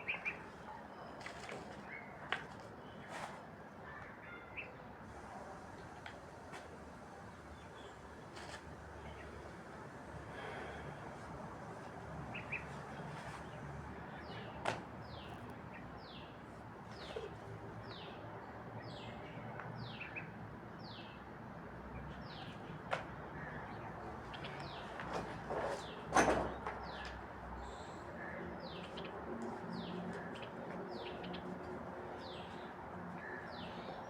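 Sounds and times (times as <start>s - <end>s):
background noise: 0.0s - 34.0s.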